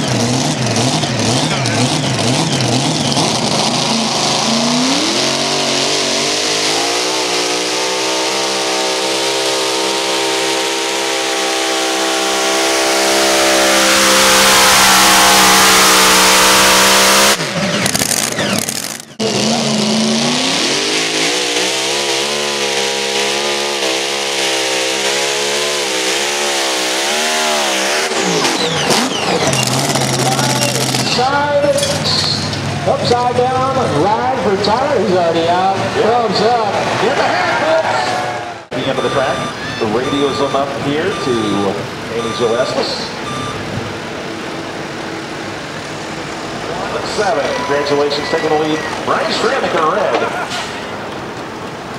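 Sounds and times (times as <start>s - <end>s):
tractor engines revving high: 0.0s - 51.9s.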